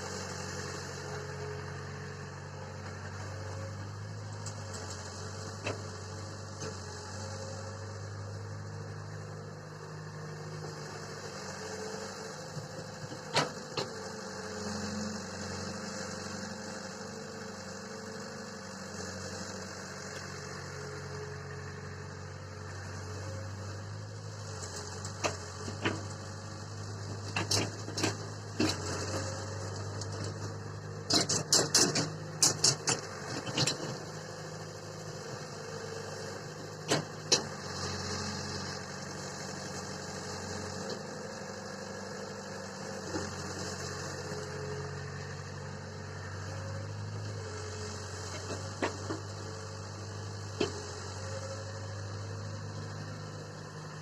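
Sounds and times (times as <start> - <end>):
tractor diesel engine running: 10.1 - 54.0.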